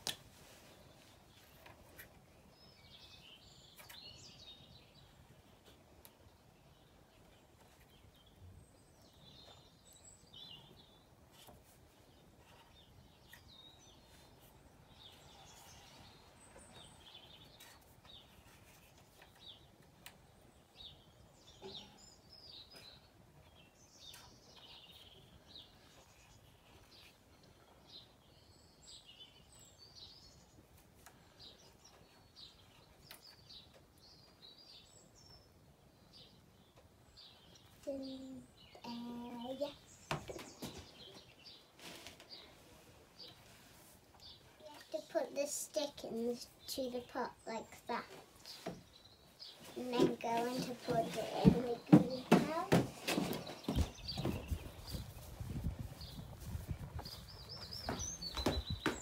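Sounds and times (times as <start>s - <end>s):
birds chirping: 6.5s - 59.0s.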